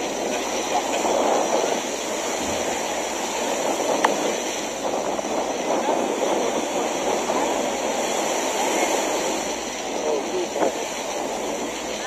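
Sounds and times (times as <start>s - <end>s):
surf washing: 0.0s - 12.0s
wind noise: 0.0s - 12.0s.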